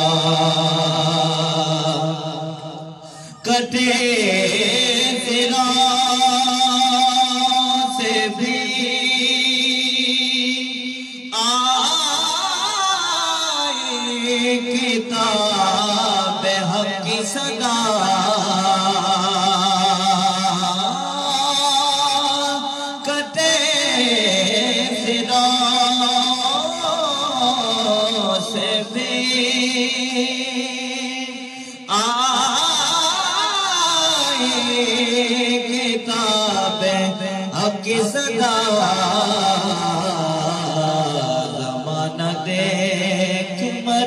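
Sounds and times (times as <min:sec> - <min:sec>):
man singing into a microphone: 0:00.0 - 0:44.0.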